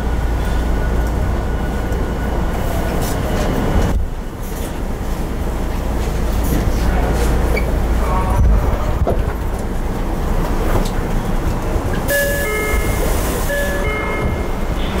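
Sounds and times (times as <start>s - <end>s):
subway car rumbling: 0.0s - 15.0s.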